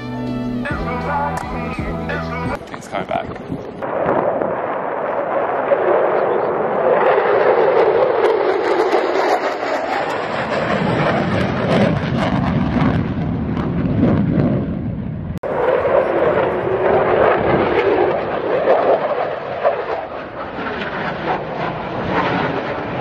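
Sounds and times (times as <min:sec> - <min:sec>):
fighter jet flying past: 0:01.7 - 0:23.0.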